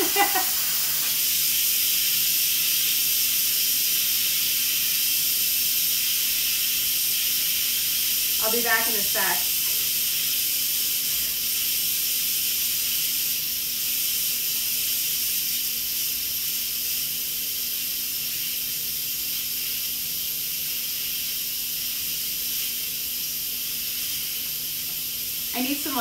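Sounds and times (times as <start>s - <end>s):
pressure cooker steam hissing: 0.0s - 26.0s.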